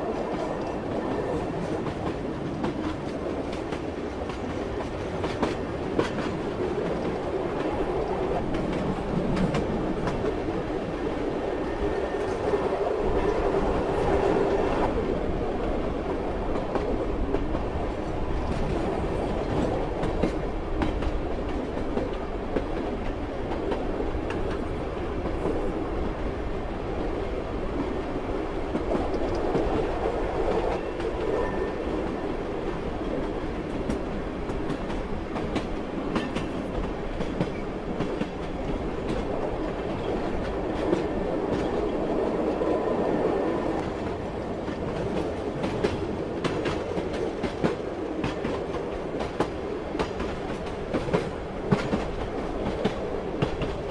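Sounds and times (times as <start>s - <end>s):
train wagons rumbling: 0.0s - 26.4s, 27.7s - 53.9s.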